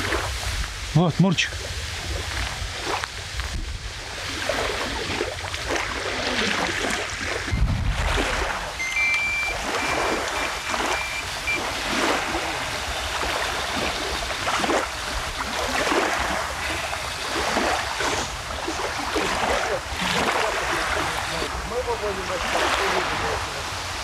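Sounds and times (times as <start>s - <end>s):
waves lapping against bank: 0.0s - 24.0s
wind: 0.0s - 24.0s.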